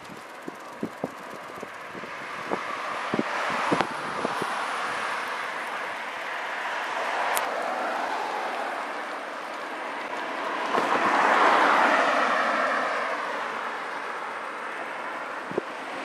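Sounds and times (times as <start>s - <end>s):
steady traffic rush: 0.0s - 16.0s
vehicle passing: 0.0s - 16.0s.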